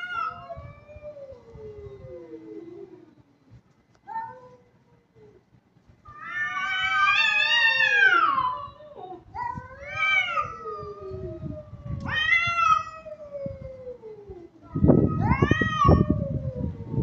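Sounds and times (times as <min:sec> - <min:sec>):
cats yowling: 0:00.0 - 0:03.1, 0:04.1 - 0:05.4, 0:06.1 - 0:17.0.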